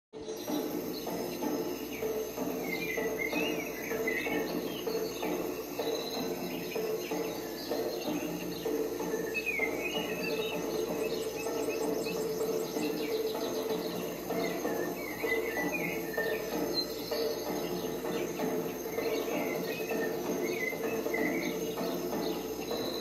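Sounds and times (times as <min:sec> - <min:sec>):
birds chirping: 0:00.2 - 0:23.0
crickets and insects chorus: 0:00.2 - 0:23.0.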